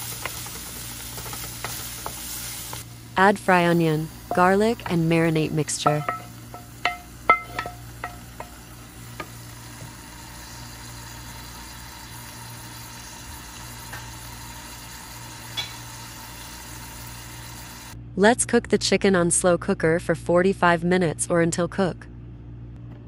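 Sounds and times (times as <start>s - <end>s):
low hum: 0.1s - 21.2s.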